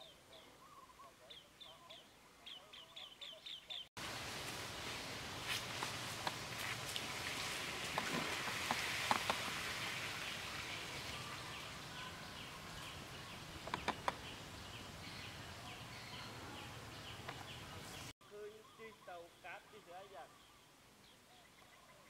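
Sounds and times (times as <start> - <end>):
steady forest hiss: 0.0 - 22.0.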